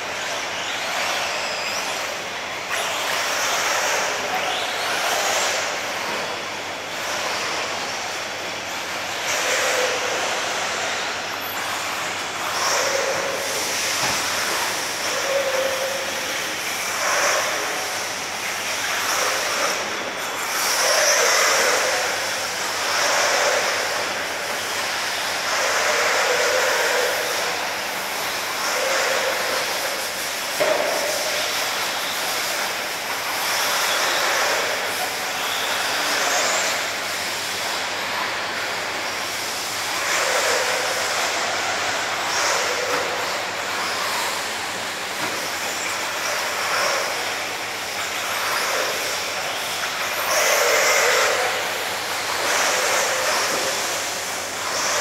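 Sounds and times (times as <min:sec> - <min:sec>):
electric model cars running: 0:00.0 - 0:55.0.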